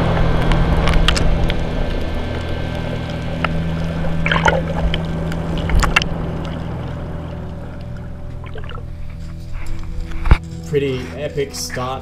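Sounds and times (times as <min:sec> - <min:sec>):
bubbling crackling bursts: 0:00.0 - 0:09.8
muffled underwater water noise: 0:00.0 - 0:10.4.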